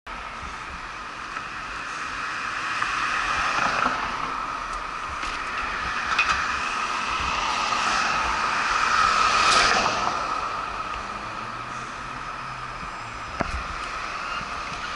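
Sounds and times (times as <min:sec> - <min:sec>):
cars passing: 0:00.1 - 0:14.9
steady high-pitched whine: 0:00.1 - 0:14.9.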